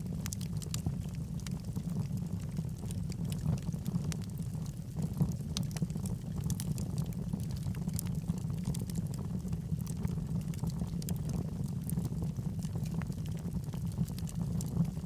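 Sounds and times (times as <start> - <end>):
fire flames rumbling: 0.0 - 15.0
wood crackling and popping: 0.0 - 15.0.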